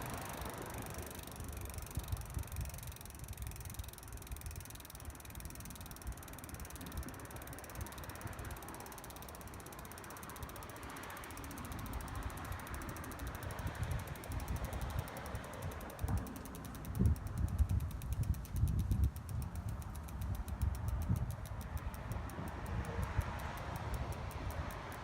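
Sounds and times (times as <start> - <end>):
mechanism ticking rapidly: 0.0 - 25.0.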